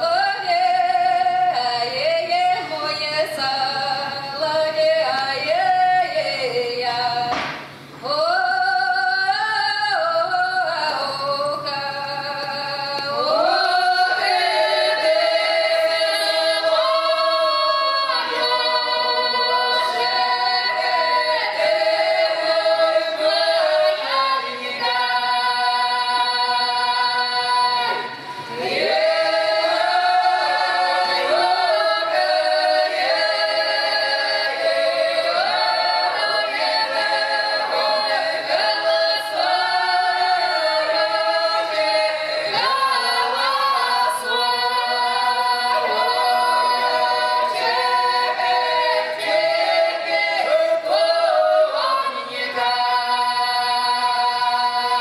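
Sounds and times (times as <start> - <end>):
women's choir singing unaccompanied: 0.0 - 55.0.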